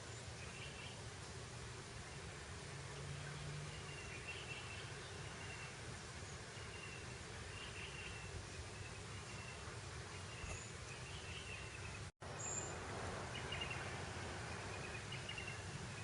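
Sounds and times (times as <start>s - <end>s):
breeze over grassland: 0.0s - 16.0s.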